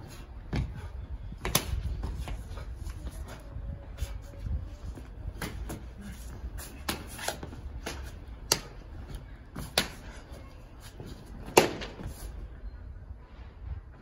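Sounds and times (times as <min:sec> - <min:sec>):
shoes scraping on tiles: 0:00.0 - 0:12.4.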